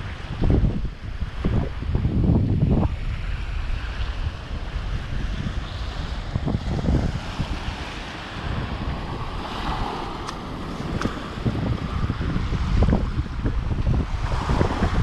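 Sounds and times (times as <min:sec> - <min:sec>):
small waves washing on beach: 0:00.0 - 0:15.0
wind buffeting microphone: 0:00.0 - 0:15.0.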